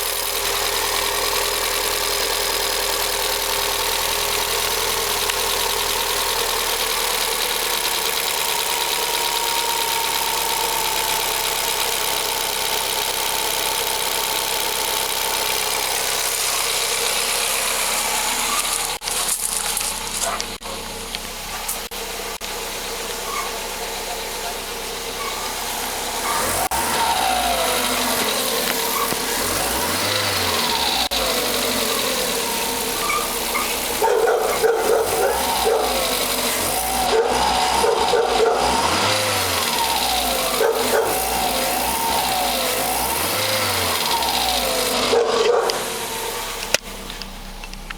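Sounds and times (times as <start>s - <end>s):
car engine running: 0.0s - 47.9s
engine knocks: 0.0s - 47.9s.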